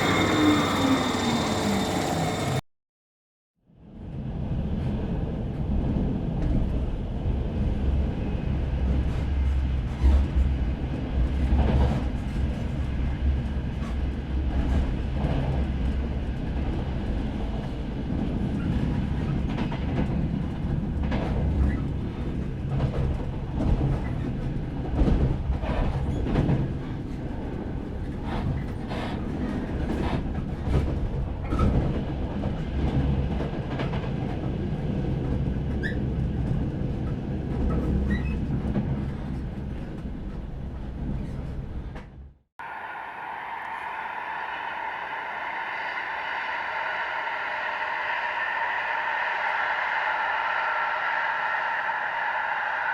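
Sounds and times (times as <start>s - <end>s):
train rumbling: 0.0s - 2.6s, 4.0s - 52.9s.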